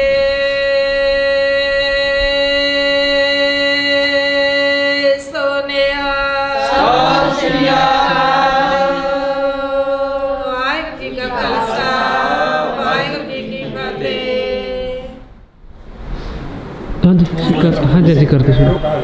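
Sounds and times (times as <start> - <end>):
group singing devotional chant: 0.0 - 15.4.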